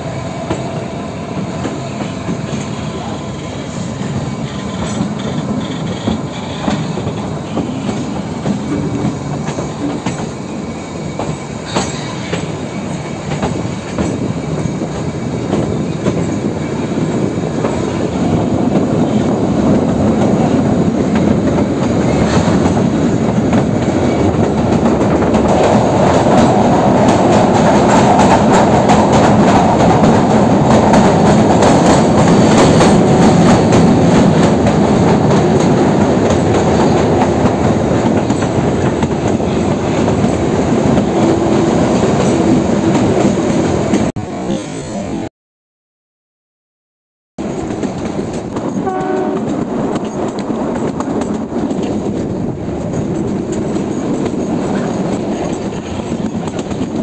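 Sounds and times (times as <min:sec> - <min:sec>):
train wheels clicking over rail joints: 0:00.3 - 0:44.1, 0:47.4 - 0:57.0.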